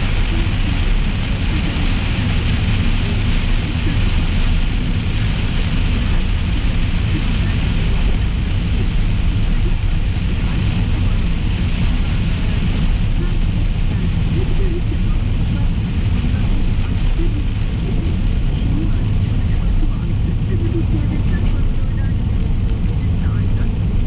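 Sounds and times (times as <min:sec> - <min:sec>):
heavy rain on a car: 0:00.0 - 0:24.0
road and engine rumble: 0:00.0 - 0:24.0.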